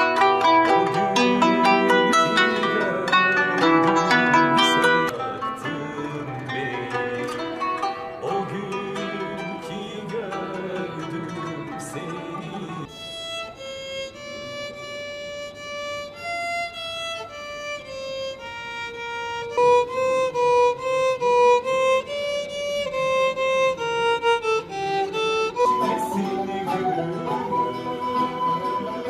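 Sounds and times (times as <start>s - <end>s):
solo violin slow melody: 0.0s - 3.2s, 3.8s - 29.0s.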